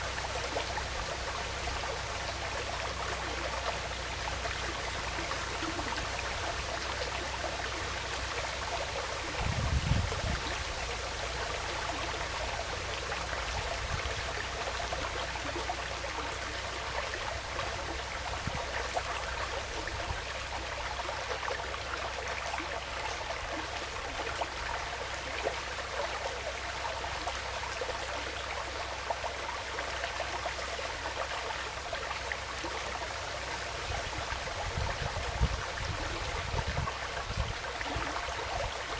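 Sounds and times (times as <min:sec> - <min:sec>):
stream rushing and trickling: 0:00.0 - 0:38.9.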